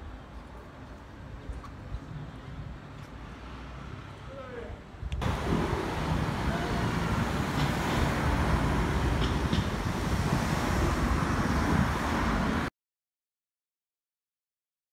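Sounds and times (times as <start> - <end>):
car road and wind noise: 0.0 - 12.7.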